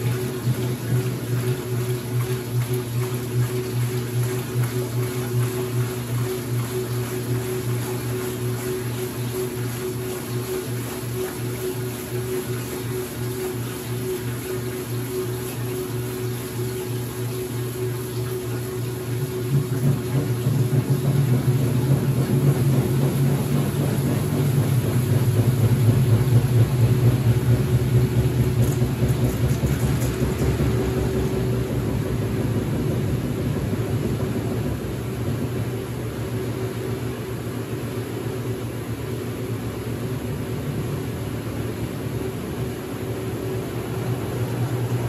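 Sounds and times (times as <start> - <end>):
washing machine motor hum: 0.0 - 45.0.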